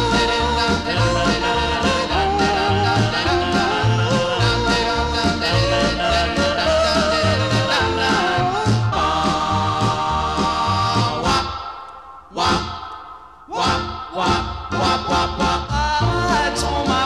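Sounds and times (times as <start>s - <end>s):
country music: 0.0s - 11.6s, 12.3s - 17.0s.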